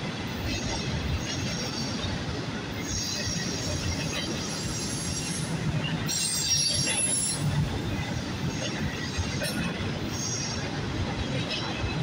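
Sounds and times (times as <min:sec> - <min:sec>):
steel wheels rumbling on rail: 0:00.0 - 0:12.0.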